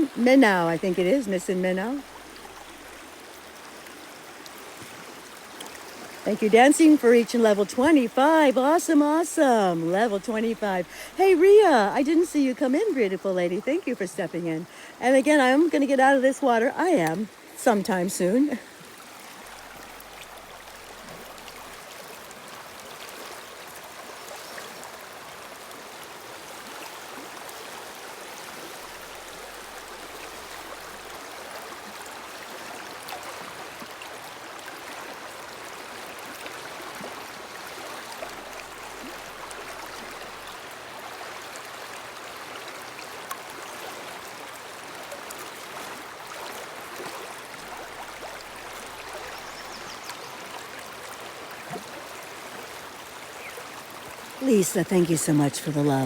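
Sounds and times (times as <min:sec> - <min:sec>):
brook running over rocks: 0:00.0 - 0:56.0.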